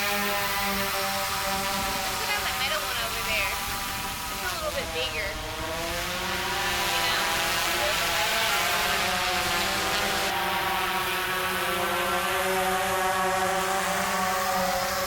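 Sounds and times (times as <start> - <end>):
drone propellers whirring: 0.0 - 15.0.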